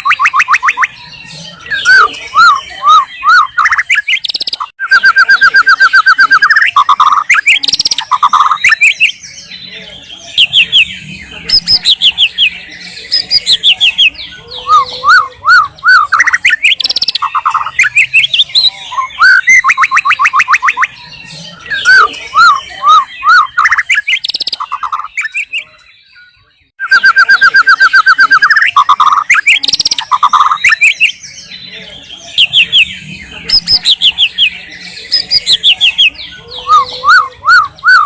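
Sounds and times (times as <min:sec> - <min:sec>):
bird singing whistled phrases and trills: 0:00.0 - 0:38.0.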